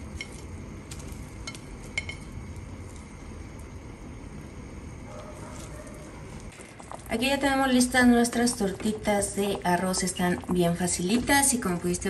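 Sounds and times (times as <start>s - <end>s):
broth simmering in a pot: 0.0s - 12.0s.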